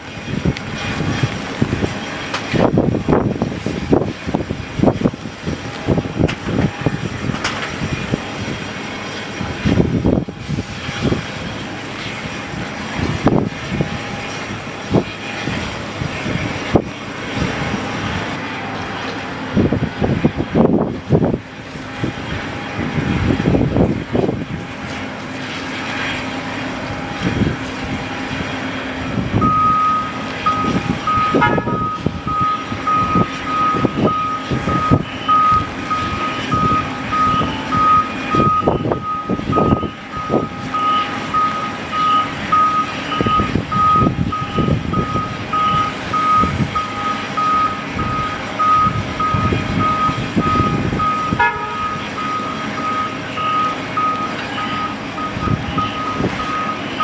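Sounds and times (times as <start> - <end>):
wind buffeting microphone: 0.0 - 57.0
vehicle reversing alarm beeping: 0.7 - 57.0.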